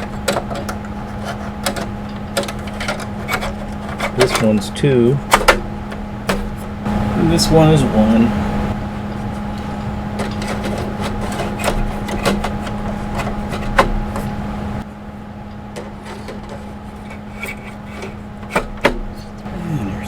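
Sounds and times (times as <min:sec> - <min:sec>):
drive sleds scraping and clicking: 0:00.0 - 0:14.9, 0:15.7 - 0:19.5
steady hum: 0:00.0 - 0:20.0.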